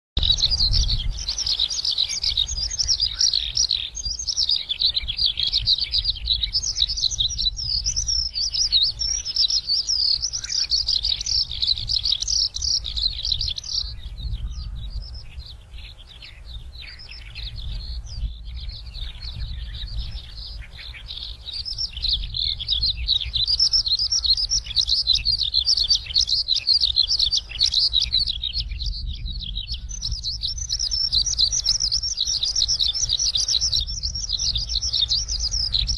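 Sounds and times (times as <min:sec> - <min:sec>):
songbird twittering: 0:00.2 - 0:35.9.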